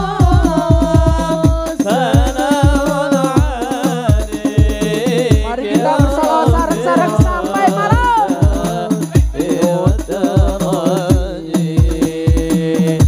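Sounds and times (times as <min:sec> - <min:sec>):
person singing ornamented melody: 0:00.0 - 0:11.2
frame drums deep bass beats: 0:00.0 - 0:13.0.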